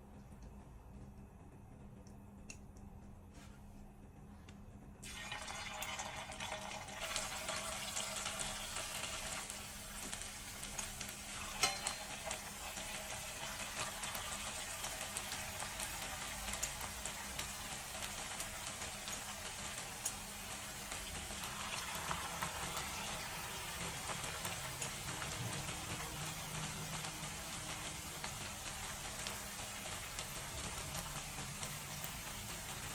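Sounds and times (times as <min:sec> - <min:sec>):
potatoes frying in hot oil: 0:05.0 - 0:32.9.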